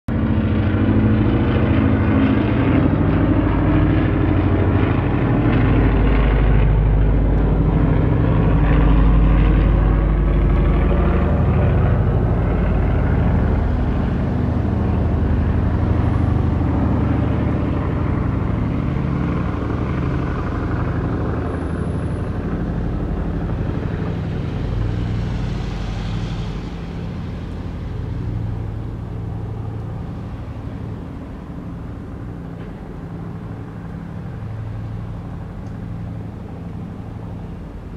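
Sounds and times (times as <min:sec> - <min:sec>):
propeller plane engines droning: 0:00.1 - 0:37.9.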